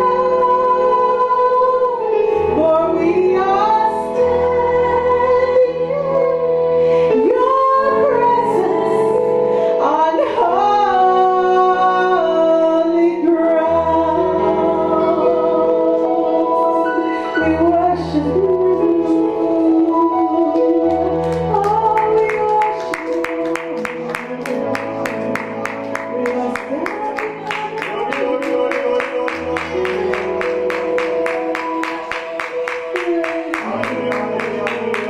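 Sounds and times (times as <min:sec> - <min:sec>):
electronic keyboard chords: 0:00.0 - 0:35.0
woman singing into a microphone: 0:00.0 - 0:35.0.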